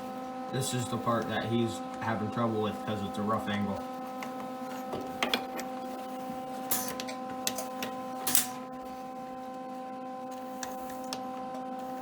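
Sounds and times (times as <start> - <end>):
welder electrical hum: 0.0 - 12.0.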